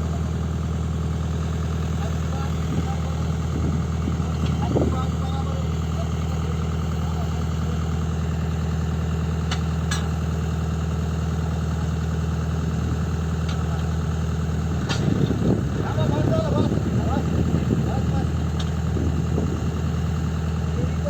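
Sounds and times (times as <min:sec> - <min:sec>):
excavator diesel engine idling: 0:00.0 - 0:21.0.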